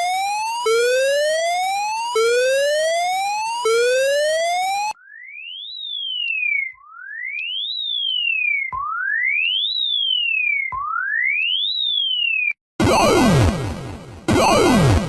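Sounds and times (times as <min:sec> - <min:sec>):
sweeping electronic alarm tone: 0:00.0 - 0:15.0.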